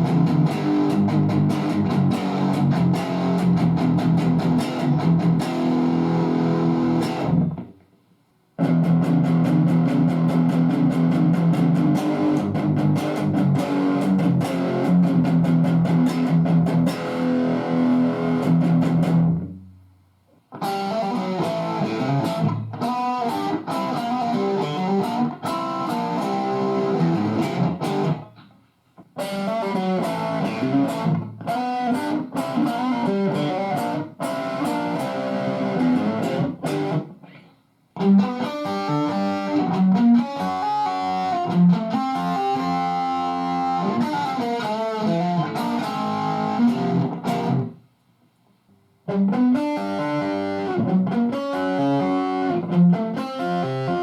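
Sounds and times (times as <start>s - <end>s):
distorted electric guitar: 0.0s - 7.8s, 8.6s - 19.7s, 20.5s - 47.8s, 49.1s - 54.0s.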